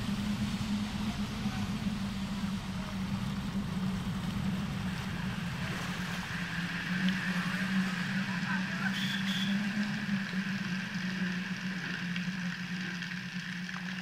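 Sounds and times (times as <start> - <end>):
rushing water: 0.0 - 14.0
steady low hum: 0.0 - 14.0.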